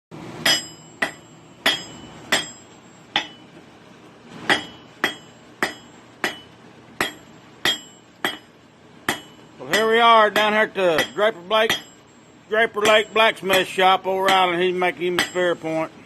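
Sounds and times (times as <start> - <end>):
hammer striking steel on anvil: 0.4 - 3.6, 4.4 - 12.2, 12.8 - 15.6.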